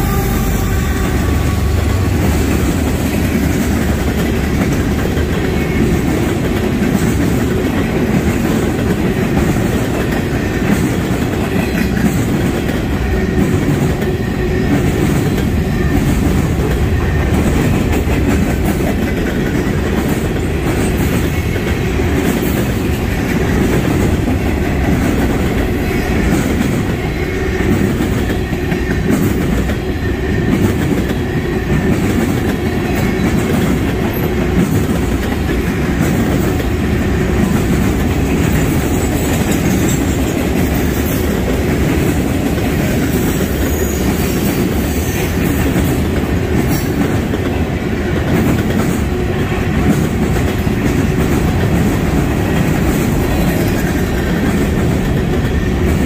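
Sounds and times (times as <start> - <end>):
freight train wheels rolling on rail: 0.0 - 56.0.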